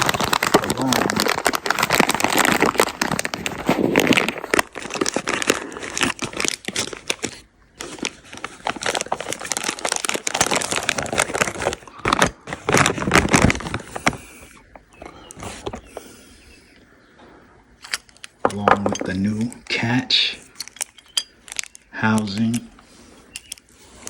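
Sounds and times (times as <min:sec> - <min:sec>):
plastic packaging crinkling: 0:00.0 - 0:16.3, 0:20.4 - 0:24.0.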